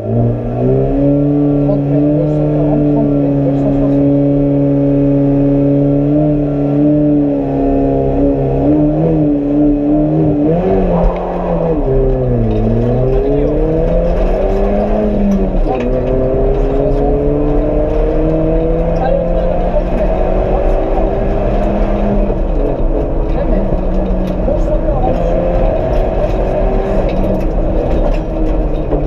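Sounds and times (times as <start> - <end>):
car engine revving and accelerating: 0.0 - 29.0.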